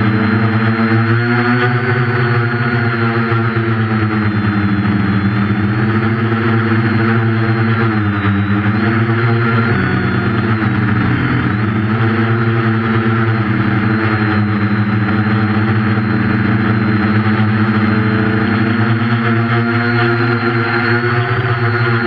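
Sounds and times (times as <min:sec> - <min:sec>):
quadcopter motors buzzing: 0:00.0 - 0:22.0.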